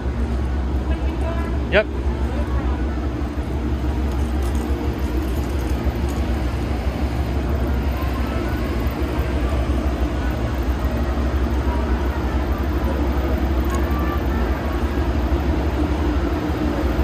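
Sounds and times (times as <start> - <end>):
diesel locomotives idling: 0.0 - 17.0.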